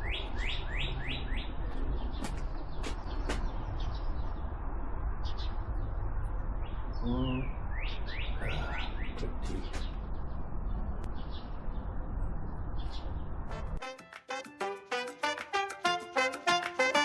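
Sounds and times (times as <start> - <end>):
birds chirping: 0.0 - 13.8
steady low rumble: 0.0 - 13.8.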